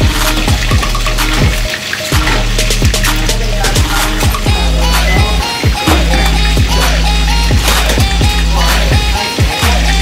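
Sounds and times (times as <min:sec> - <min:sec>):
music with heavy bass beat: 0:00.0 - 0:10.0.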